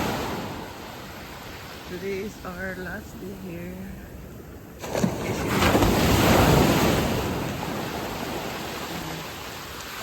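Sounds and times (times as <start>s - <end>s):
ocean waves breaking on beach: 0.0s - 10.0s.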